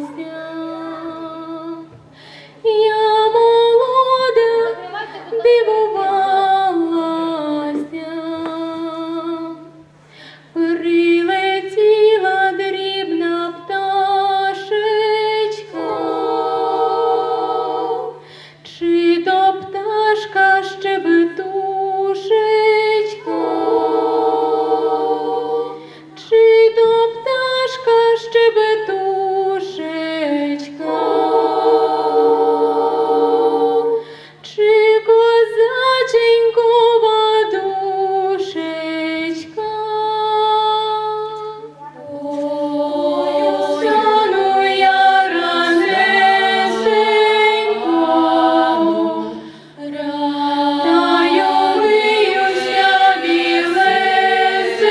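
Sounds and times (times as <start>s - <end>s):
girls singing folk song a cappella: 0.0s - 54.9s.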